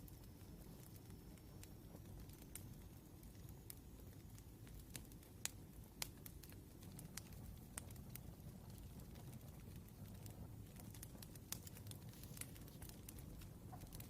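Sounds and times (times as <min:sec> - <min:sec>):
faint low rumble: 0:00.0 - 0:14.0
wood fire crackling: 0:00.0 - 0:14.0.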